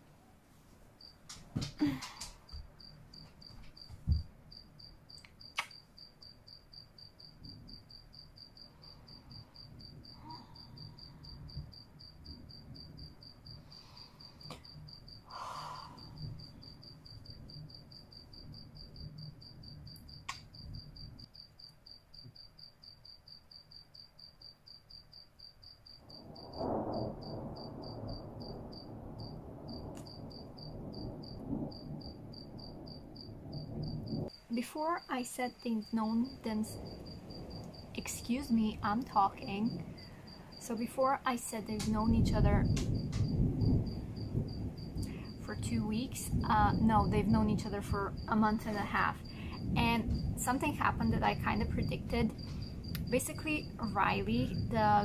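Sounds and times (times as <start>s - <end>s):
cricket chirping: 0.9s - 55.0s.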